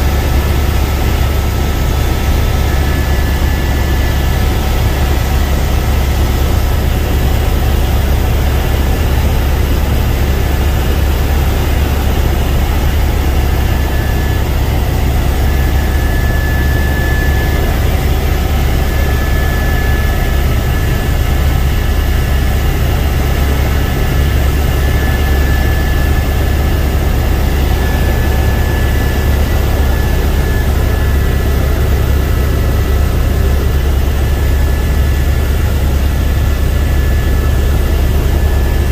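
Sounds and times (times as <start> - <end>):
helicopter cabin drone: 0.0 - 38.9
high whine: 0.0 - 38.9.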